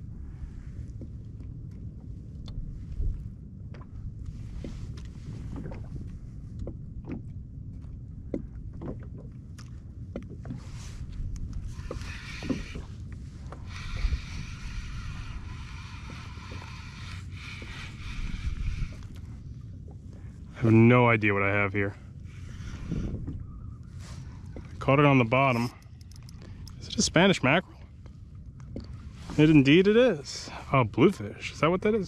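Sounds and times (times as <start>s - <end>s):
low rumble of water and wind: 0.0s - 32.0s.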